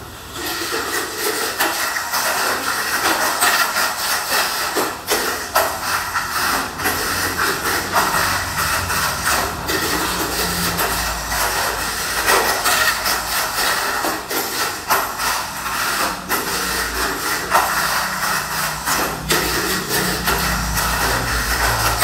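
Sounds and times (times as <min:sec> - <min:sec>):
toy car clacking against track: 0:00.4 - 0:22.0.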